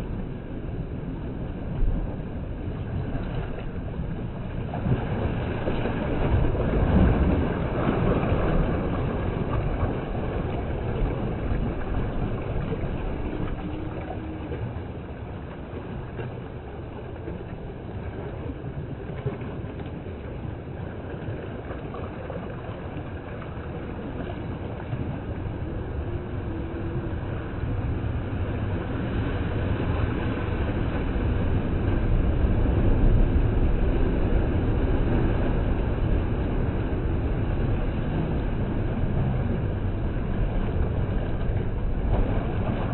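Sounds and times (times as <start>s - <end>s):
sea surf breaking on rocks: 0.0s - 42.9s.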